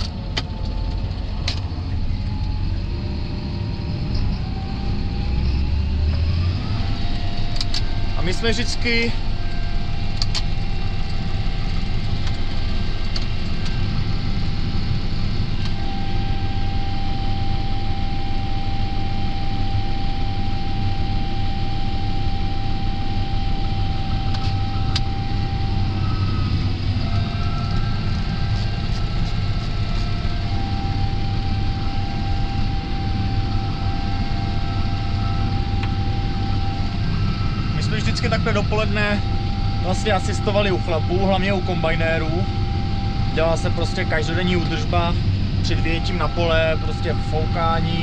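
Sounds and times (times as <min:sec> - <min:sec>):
steady whine: 0:00.0 - 0:48.0
tractor diesel engine running: 0:00.0 - 0:48.0.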